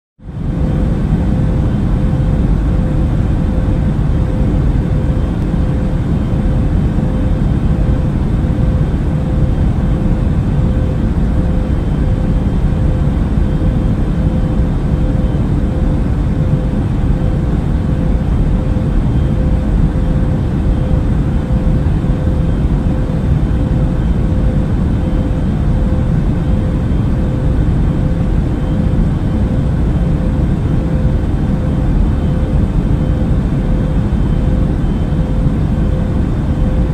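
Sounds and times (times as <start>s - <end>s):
airliner cabin engine rush: 0.2s - 36.9s
faint steady hum: 0.2s - 36.9s.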